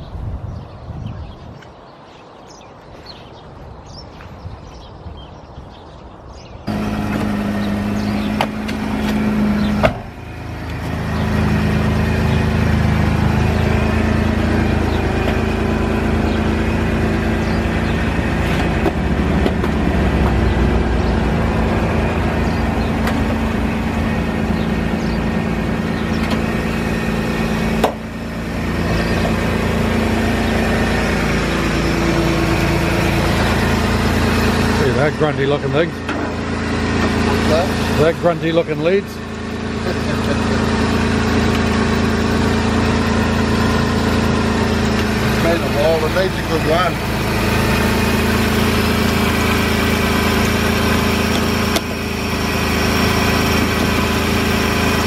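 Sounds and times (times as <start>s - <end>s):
diesel truck engine idling: 6.7s - 55.0s.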